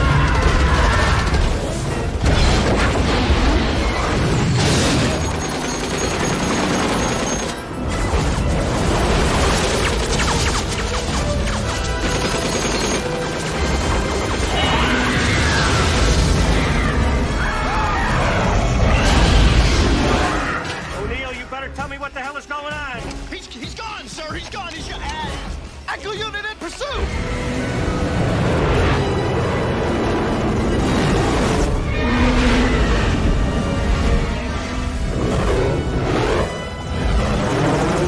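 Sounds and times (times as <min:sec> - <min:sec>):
orchestral film score: 0:00.0 - 0:38.0.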